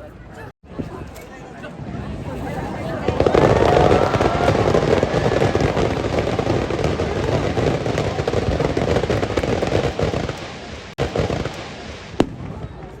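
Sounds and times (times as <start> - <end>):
fireworks crackling: 0.8 - 13.0.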